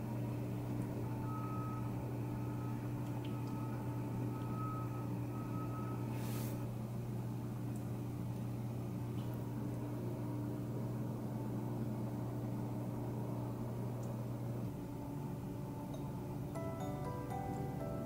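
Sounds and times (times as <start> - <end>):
mechanical hum with drone: 0.0 - 18.0.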